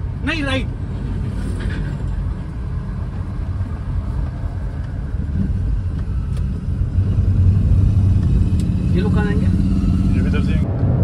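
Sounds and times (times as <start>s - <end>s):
car cabin engine and road rumble: 0.0s - 11.0s.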